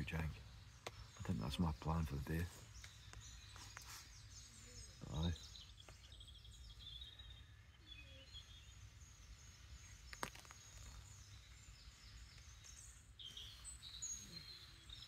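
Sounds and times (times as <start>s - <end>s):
faint birdsong chirps: 0.0s - 15.0s.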